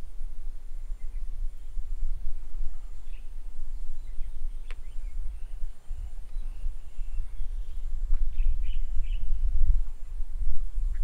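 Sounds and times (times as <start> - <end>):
wind rumble on microphone: 0.0 - 11.0
faint bird chirps: 0.7 - 10.1.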